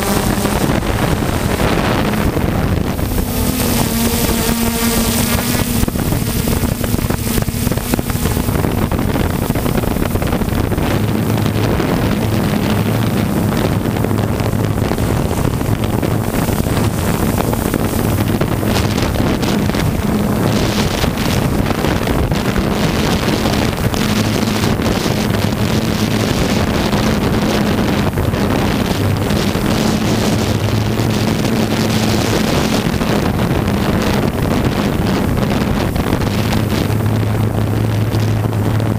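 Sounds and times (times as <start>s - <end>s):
drone propellers whirring: 0.0s - 38.9s
wind buffeting the microphone: 0.0s - 38.9s.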